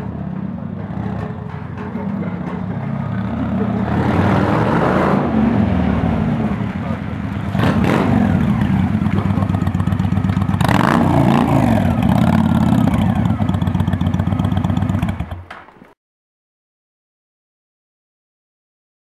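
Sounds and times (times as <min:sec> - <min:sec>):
motorcycle engine running: 0:00.0 - 0:15.5.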